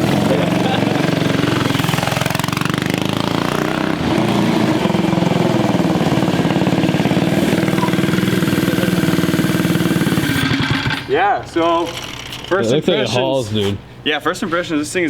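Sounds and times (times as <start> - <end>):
mini bike engine running: 0.0 - 12.8.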